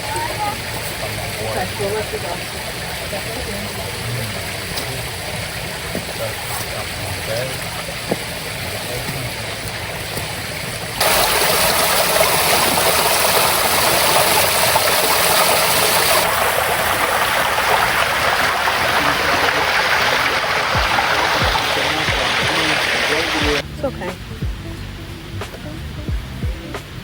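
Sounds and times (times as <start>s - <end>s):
creek water rushing over rocks: 0.0s - 27.0s.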